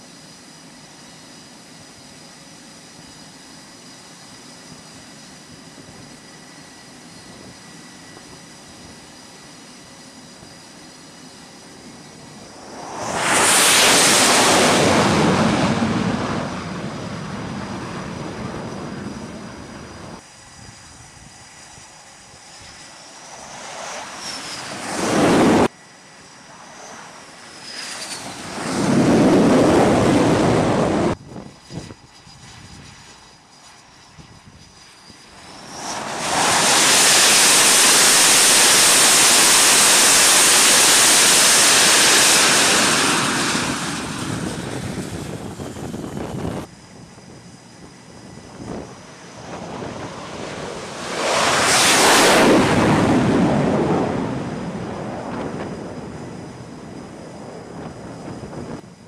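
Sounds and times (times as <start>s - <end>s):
high turbine whine: 0.0s - 59.0s
jet engine roar: 0.0s - 59.0s.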